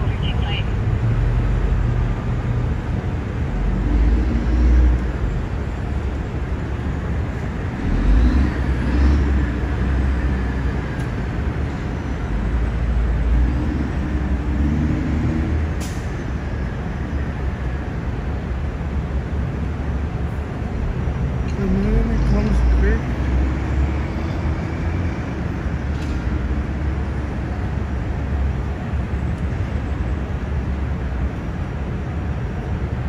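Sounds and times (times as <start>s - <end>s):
traffic engine rumble: 0.0s - 33.0s.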